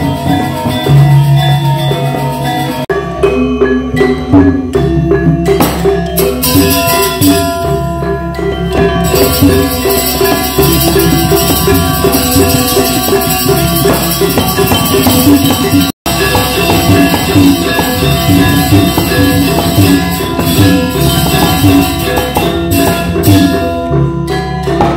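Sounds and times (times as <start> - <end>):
drums: 0.0 - 24.9
gongs: 0.0 - 24.9
metallophones ringing: 0.0 - 24.9.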